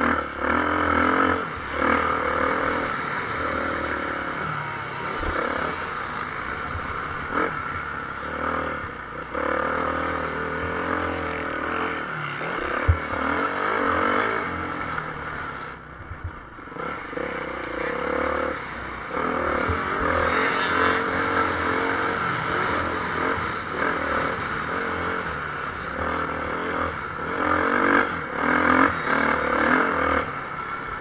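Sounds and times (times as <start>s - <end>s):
motocross engines racing: 0.0s - 31.0s.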